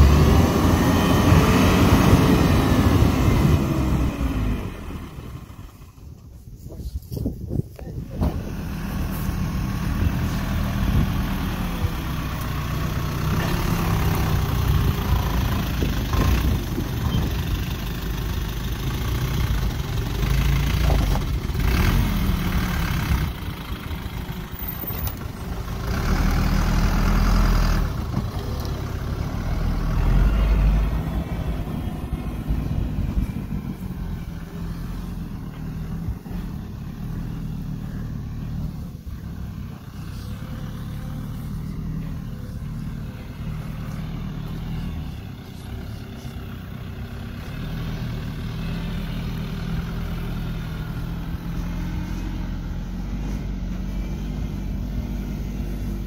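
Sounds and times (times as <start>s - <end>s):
truck engine revving under load: 0.0s - 6.1s, 8.1s - 56.0s.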